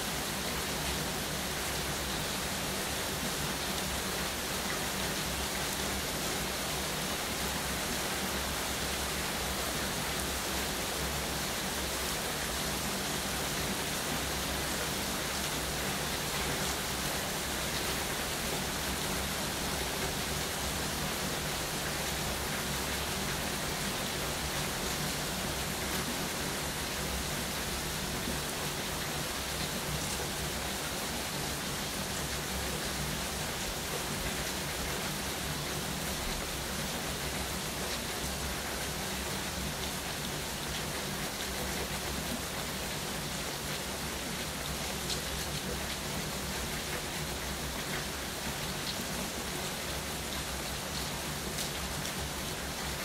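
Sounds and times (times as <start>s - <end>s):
rain falling: 0.0s - 53.0s.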